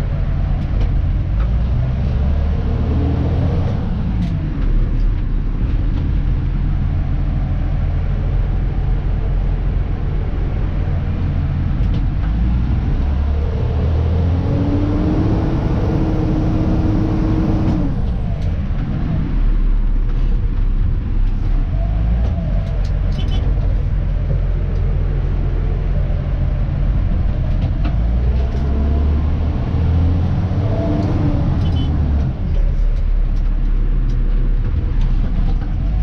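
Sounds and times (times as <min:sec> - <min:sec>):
diesel truck engine rumble: 0:00.0 - 0:36.0
road noise: 0:00.0 - 0:36.0.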